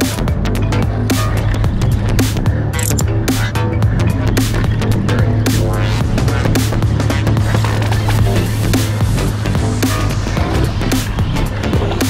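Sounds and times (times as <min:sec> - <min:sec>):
deep sustained bass: 0:00.0 - 0:12.0.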